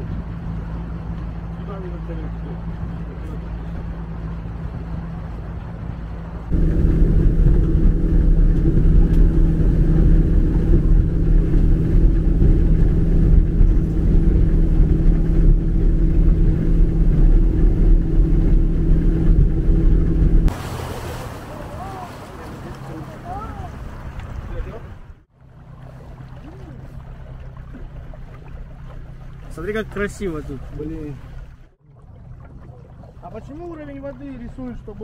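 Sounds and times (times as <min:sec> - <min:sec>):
engine running with rumble: 0:00.0 - 0:31.8.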